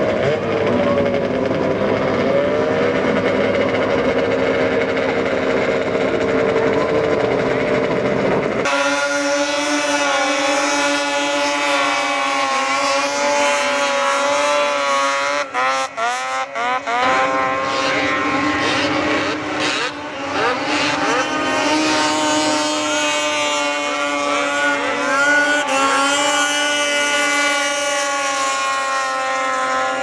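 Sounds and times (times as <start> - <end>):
snowmobile engines revving high: 0.0 - 30.0.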